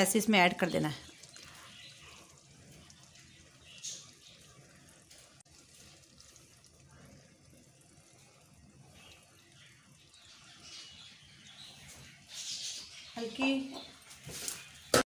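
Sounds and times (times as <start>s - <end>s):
liquid egg pouring: 0.0s - 12.4s.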